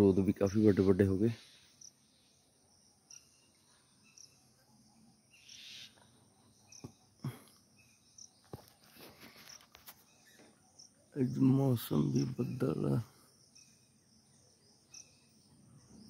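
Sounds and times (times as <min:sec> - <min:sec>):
distant bird chirps: 0:00.0 - 0:16.0
insect hum: 0:00.0 - 0:16.0.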